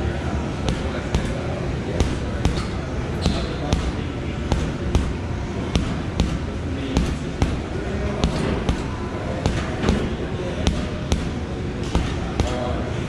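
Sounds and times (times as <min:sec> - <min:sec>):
gloves punching heavy bag: 0:00.6 - 0:12.7.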